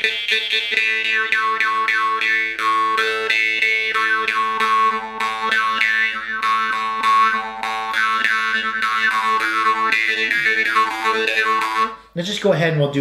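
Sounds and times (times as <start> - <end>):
jaw harp plucked: 0.0 - 12.1.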